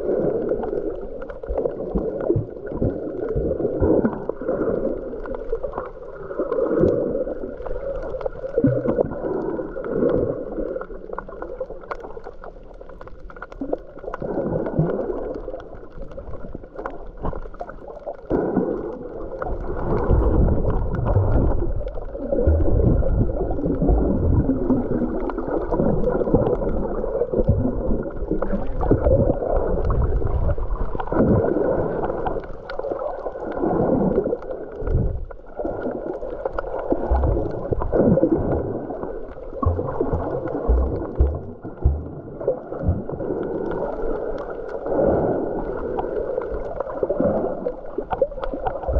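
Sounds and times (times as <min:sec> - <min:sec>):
underwater gurgling and sloshing: 0:00.0 - 0:48.9.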